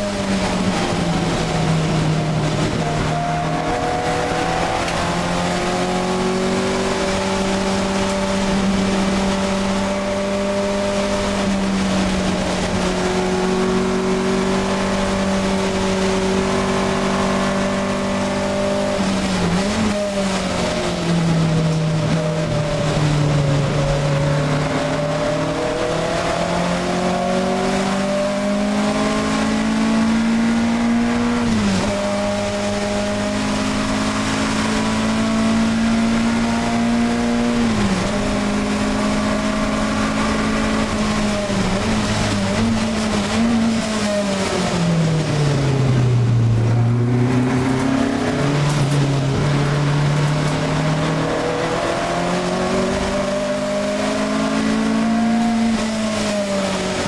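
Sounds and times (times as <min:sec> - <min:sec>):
race car engine at full throttle: 0:00.0 - 0:57.0.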